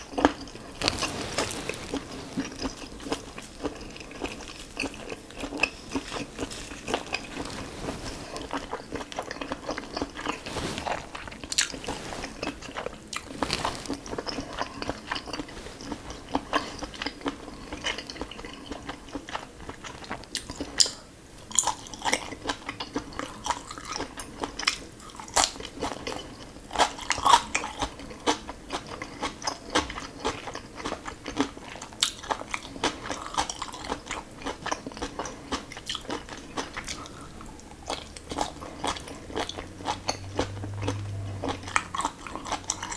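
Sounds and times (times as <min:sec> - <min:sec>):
biting and chewing food: 0:00.0 - 0:42.9.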